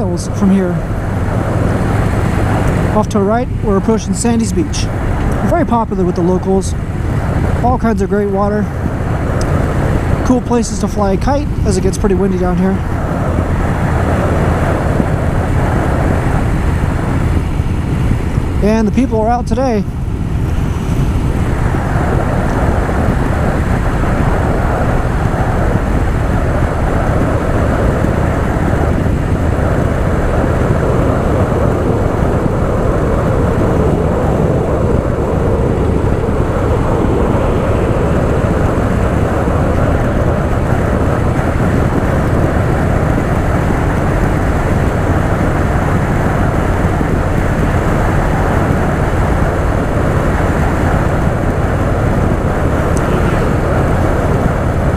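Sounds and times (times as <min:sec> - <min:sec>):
motorcycle engine cruising: 0:00.0 - 0:54.9
wind rush on microphone: 0:00.0 - 0:54.9.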